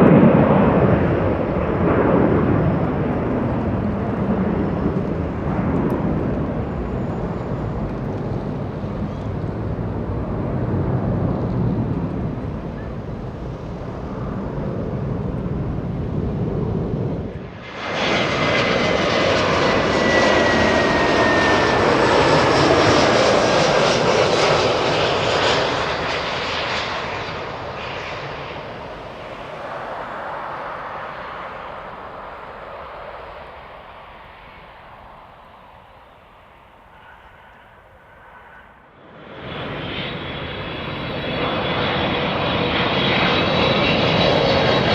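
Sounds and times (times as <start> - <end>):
jet airliner engine roar: 0.0 - 44.9.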